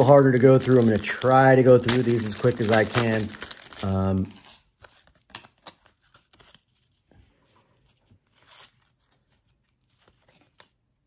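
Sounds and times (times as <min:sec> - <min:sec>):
trading cards rustling and clicking: 0:00.0 - 0:10.8.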